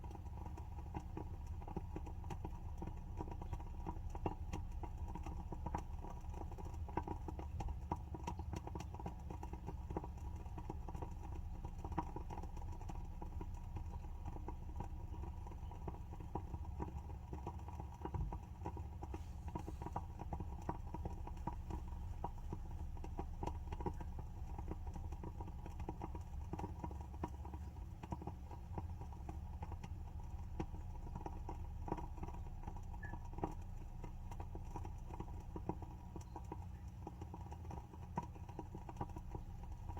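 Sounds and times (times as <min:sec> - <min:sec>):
candle wick crackling: 0:00.1 - 0:39.9.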